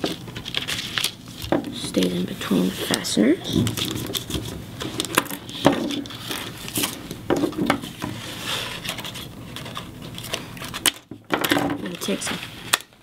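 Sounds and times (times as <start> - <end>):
cardstock rustling: 0.0 - 10.9.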